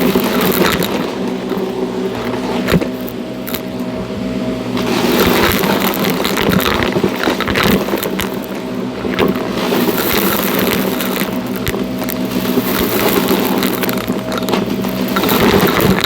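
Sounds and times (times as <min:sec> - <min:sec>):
debris clicking in vacuum: 0:00.0 - 0:16.0
vacuum cleaner running: 0:00.0 - 0:16.0.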